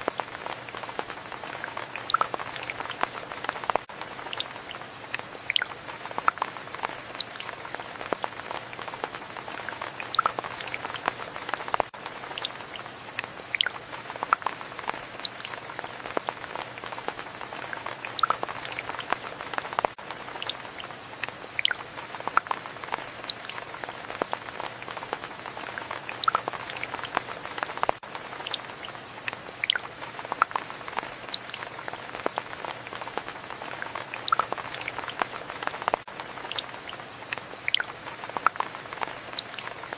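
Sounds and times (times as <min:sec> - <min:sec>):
drops ticking and dripping: 0:00.0 - 0:39.9
rain falling: 0:00.0 - 0:39.9.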